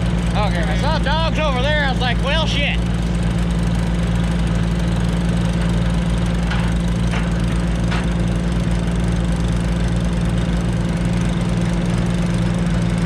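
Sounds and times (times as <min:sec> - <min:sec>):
loader engine idling: 0:00.0 - 0:13.0.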